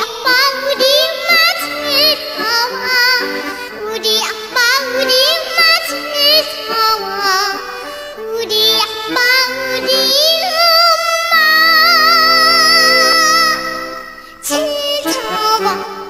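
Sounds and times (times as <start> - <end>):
girl singing with vibrato: 0.0 - 16.0.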